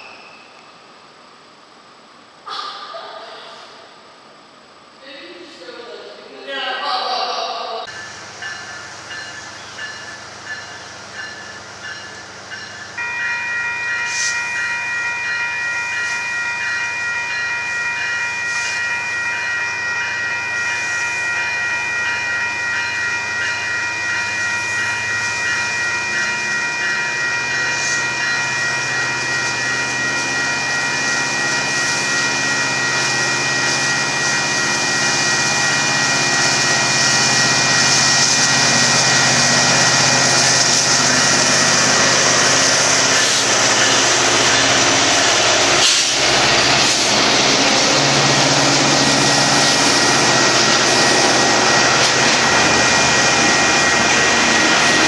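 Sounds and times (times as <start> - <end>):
diesel locomotives approaching: 0.0 - 55.0
crossing warning bell ringing: 7.8 - 55.0
train wheels on rails: 7.8 - 55.0.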